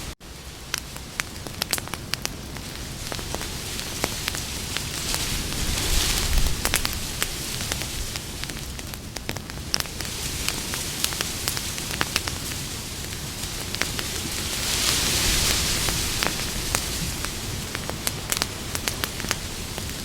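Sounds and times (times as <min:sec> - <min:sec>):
hiss of flame: 0:00.0 - 0:20.0
crackles and pops of burning wood: 0:00.3 - 0:20.0.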